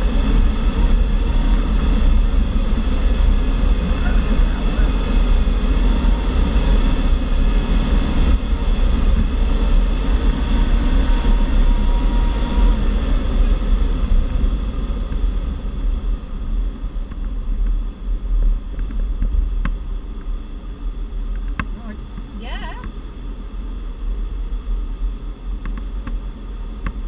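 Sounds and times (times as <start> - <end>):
wind rushing over glider canopy: 0.0 - 27.0.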